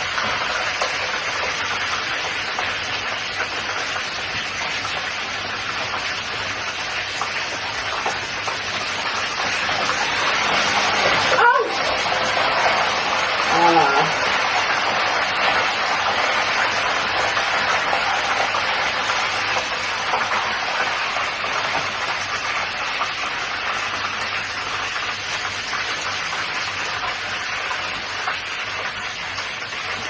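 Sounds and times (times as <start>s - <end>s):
fish frying in hot oil: 0.0s - 30.0s.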